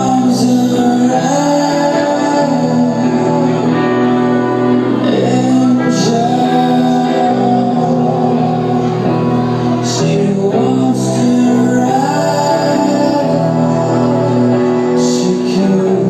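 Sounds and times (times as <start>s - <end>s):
electric guitar chords: 0.0s - 16.0s
live rock band playing: 0.0s - 16.0s
man singing: 0.0s - 16.0s.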